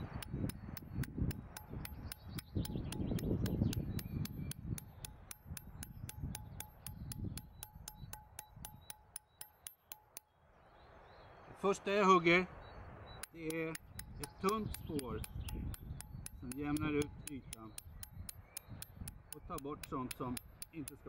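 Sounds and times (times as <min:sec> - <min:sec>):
hammer striking chisel on stone: 0:00.0 - 0:10.3, 0:13.2 - 0:21.0.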